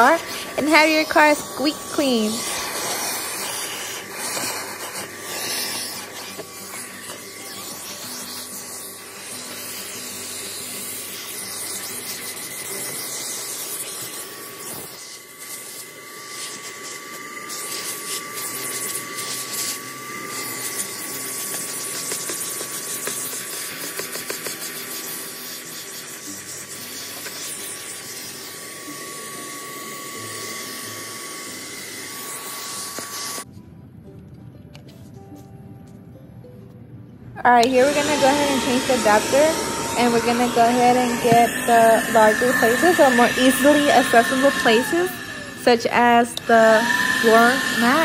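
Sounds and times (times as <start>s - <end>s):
vacuum cleaner motor whine: 0.0s - 33.6s, 37.4s - 48.0s.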